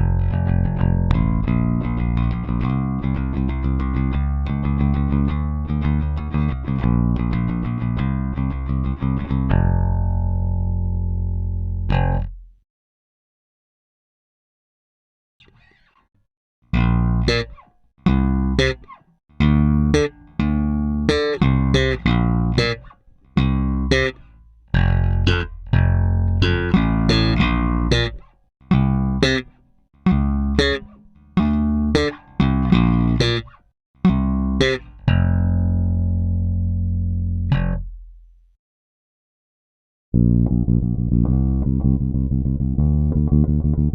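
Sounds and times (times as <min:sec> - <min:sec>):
electric bass plucked notes: 0:00.0 - 0:12.6, 0:16.7 - 0:38.3, 0:40.2 - 0:43.9.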